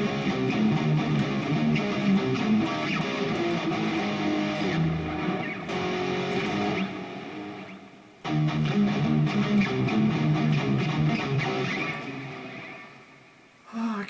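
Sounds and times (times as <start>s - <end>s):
electric guitar riff: 0.0s - 13.3s.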